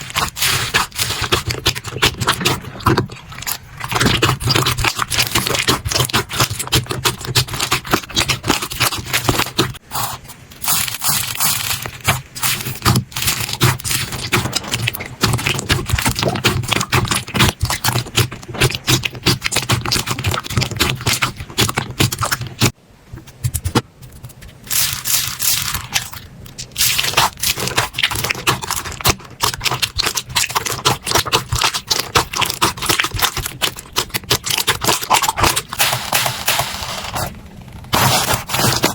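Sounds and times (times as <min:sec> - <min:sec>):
slime crackling and popping: 0:00.0 - 0:22.8, 0:23.4 - 0:38.9.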